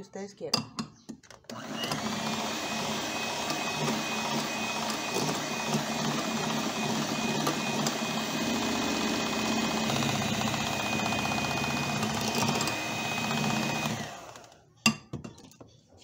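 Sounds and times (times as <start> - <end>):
electric hand mixer whining: 1.5 - 14.7.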